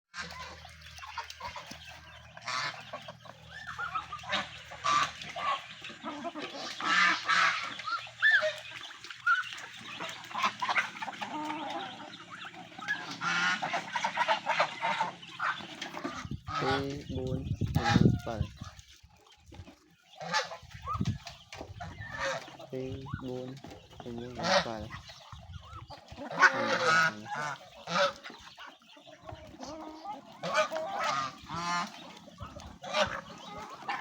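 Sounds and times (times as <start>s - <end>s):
chickens clucking: 0.1s - 34.0s
ducks calling: 0.1s - 34.0s
geese honking: 0.1s - 34.0s.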